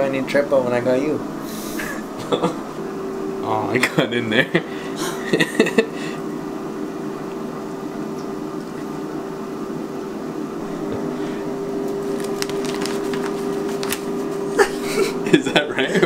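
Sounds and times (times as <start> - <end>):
air fryer fan humming: 0.0 - 16.0.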